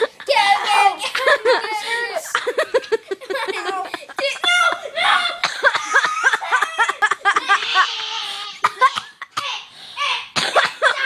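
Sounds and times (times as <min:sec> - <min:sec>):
kids coughing: 0:00.0 - 0:11.0
kids laughing: 0:00.0 - 0:11.0.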